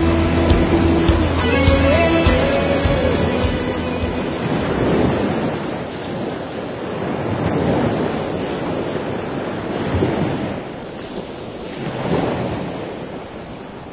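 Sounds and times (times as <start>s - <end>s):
ocean waves washing in: 0.0s - 13.9s.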